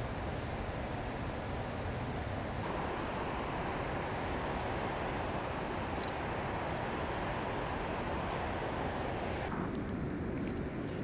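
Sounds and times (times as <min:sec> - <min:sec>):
rushing waterfall and stream: 0:00.0 - 0:09.6.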